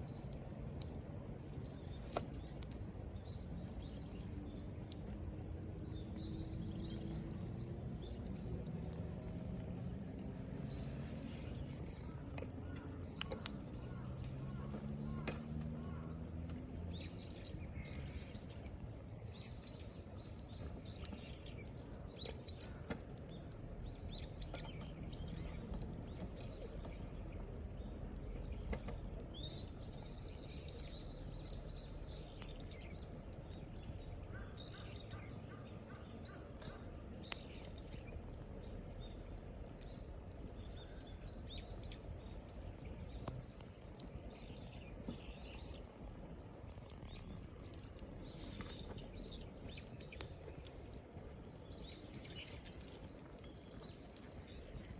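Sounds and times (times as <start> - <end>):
birds chirping: 0.0 - 54.9
campfire crackling and popping: 0.0 - 54.9.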